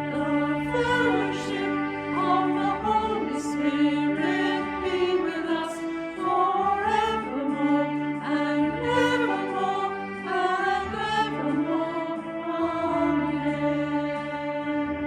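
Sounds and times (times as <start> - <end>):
group singing a hymn: 0.0 - 14.8
held accompaniment chords: 0.0 - 15.0.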